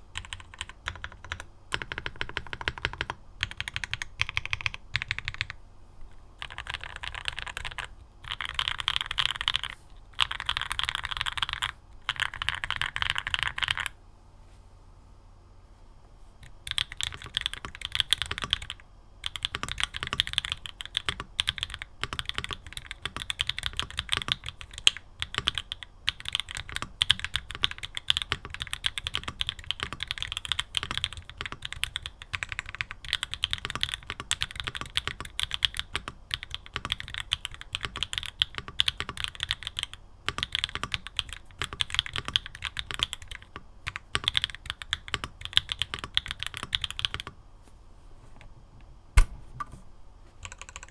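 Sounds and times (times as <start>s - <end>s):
typing on mechanical keyboard: 0.2s - 5.6s, 6.4s - 14.0s, 16.4s - 47.4s, 50.4s - 50.9s.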